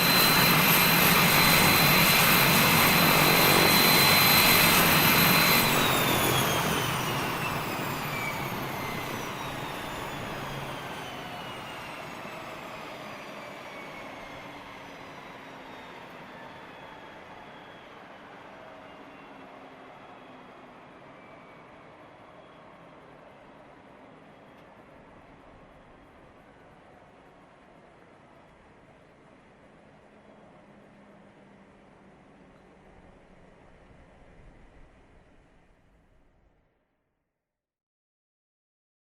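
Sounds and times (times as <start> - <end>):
turboprop engines whining: 0.0 - 36.3.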